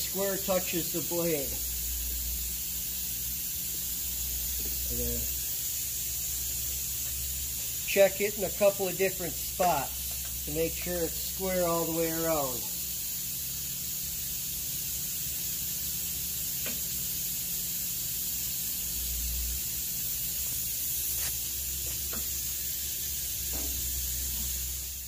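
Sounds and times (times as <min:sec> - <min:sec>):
hiss and low hum: 0:00.0 - 0:25.0.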